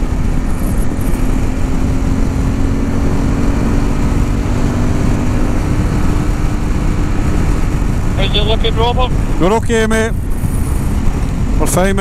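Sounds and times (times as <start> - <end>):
motorcycle engine drone: 0.0 - 12.0
wind rush over microphone: 0.0 - 12.0.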